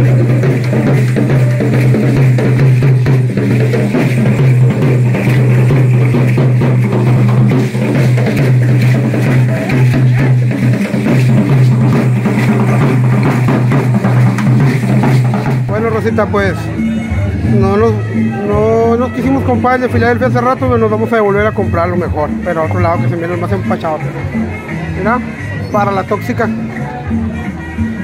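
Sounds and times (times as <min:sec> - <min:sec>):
drum beaten in fast rhythm: 0:00.0 - 0:16.9, 0:17.5 - 0:24.0.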